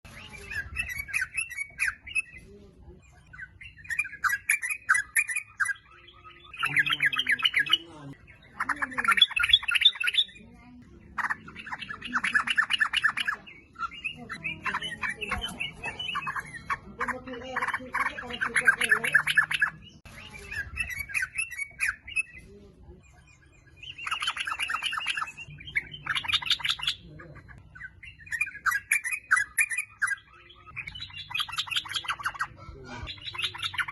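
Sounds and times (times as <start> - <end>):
bird chattering song: 0.0 - 33.9.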